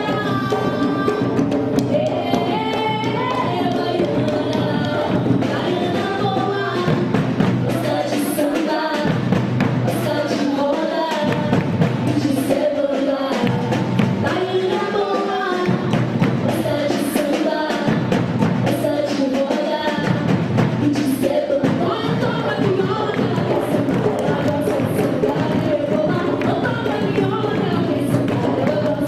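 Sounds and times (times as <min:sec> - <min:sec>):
hand drums and percussion: 0:00.0 - 0:29.0.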